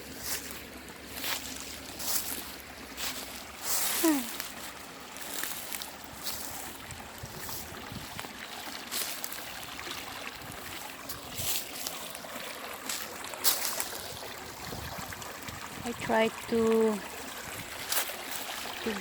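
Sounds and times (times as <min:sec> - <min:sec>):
stream rushing water: 0:00.0 - 0:19.0.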